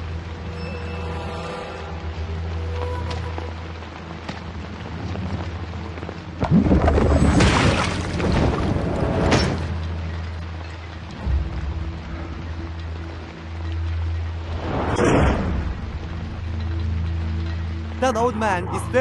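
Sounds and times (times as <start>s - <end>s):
low music drone: 0.0s - 7.1s, 8.3s - 19.0s.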